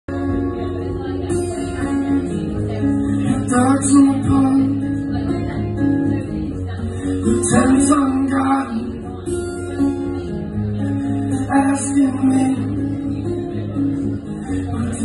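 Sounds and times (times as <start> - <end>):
acoustic guitar chords: 0.1 - 15.0.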